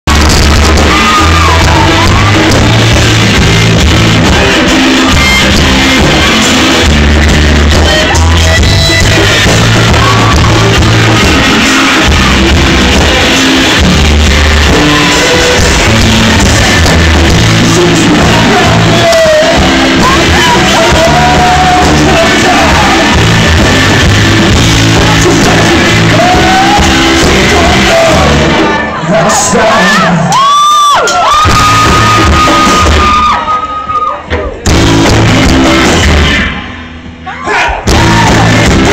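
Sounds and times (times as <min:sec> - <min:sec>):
shouted singing: 0:00.0 - 0:34.3, 0:37.3 - 0:38.9
live rock band playing: 0:00.0 - 0:38.9.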